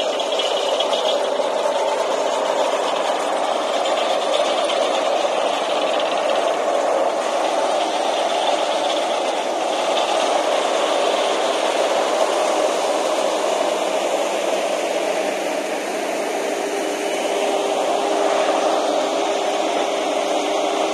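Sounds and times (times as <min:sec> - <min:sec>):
asphalt paver running with rattle: 0:00.0 - 0:20.9.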